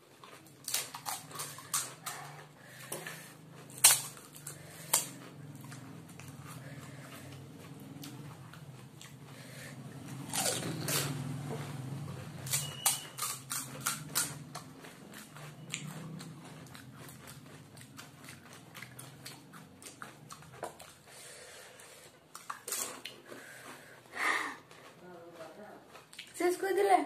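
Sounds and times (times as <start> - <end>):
crunching and chewing crisp shells: 0.0 - 26.5.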